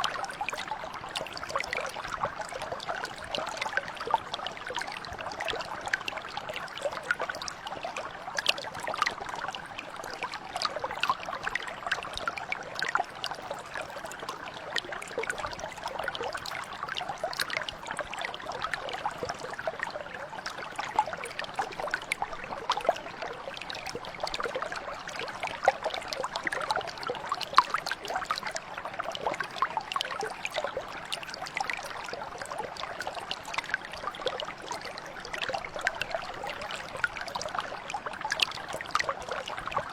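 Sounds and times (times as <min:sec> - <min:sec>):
brook running over rocks: 0:00.0 - 0:39.9.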